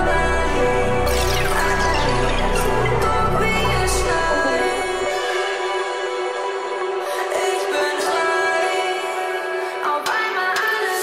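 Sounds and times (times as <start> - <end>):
sustained melodic background music: 0.0 - 11.0.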